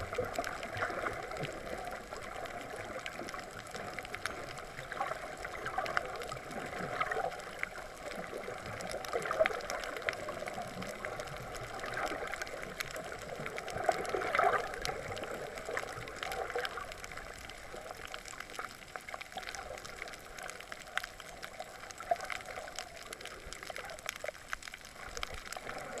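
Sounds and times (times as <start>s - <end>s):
faint underwater clicks and crackles: 0.0s - 26.0s.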